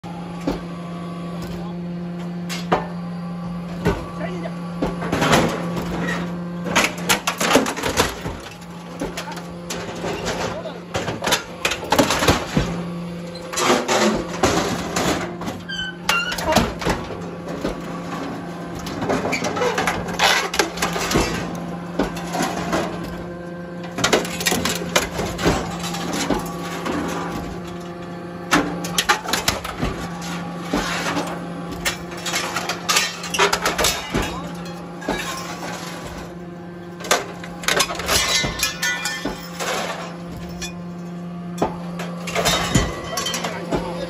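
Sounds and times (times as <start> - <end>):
hydraulic power unit hum: 0.0 - 44.0
metallic clanks and crunches: 3.7 - 44.0.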